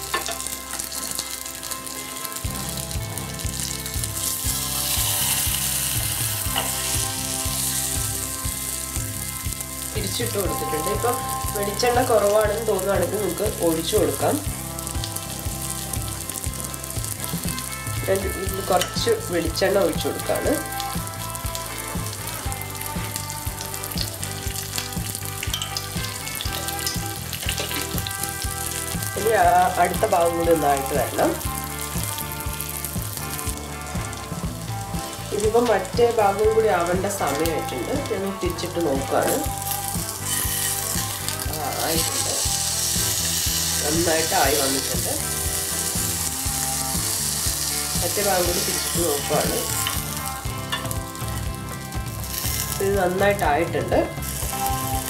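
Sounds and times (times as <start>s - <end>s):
fish sizzling in oil: 0.0s - 55.0s
soft background music with beat: 0.0s - 55.0s.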